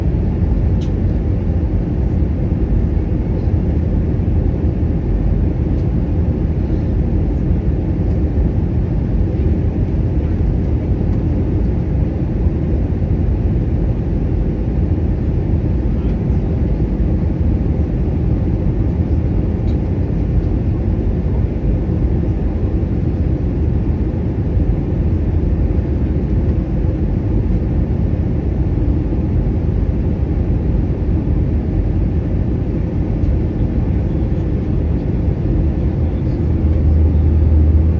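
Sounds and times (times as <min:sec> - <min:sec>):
airliner engines rumbling: 0:00.0 - 0:37.9
faint constant hum: 0:00.0 - 0:37.9.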